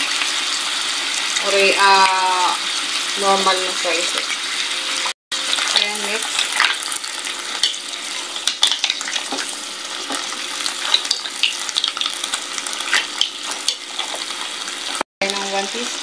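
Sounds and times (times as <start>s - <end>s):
seafood sizzling in a pan: 0.0s - 16.0s.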